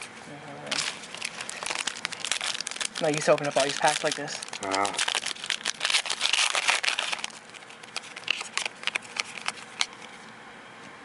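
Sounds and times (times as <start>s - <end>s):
foil wrapper crinkling and tearing: 0.0s - 10.1s
cards crackling and clicking: 0.7s - 10.1s.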